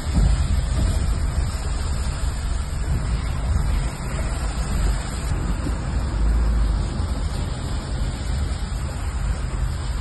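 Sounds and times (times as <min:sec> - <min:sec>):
car rumbling through floodwater: 0:00.0 - 0:10.0
water hiss: 0:00.0 - 0:10.0.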